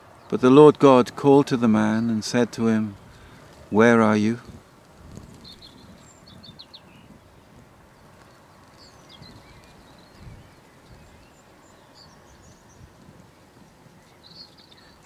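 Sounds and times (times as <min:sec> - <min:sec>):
small birds chirping: 0:01.6 - 0:15.0
wind rumble on microphone: 0:02.4 - 0:15.0.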